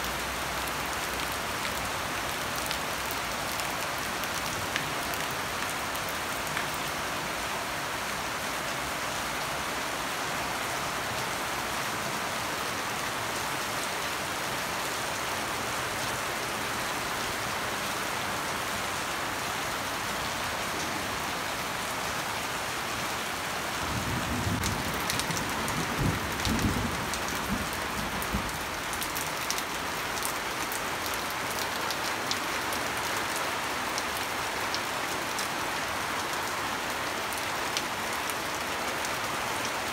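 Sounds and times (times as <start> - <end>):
steady rain on plants and roofs: 0.0 - 39.9.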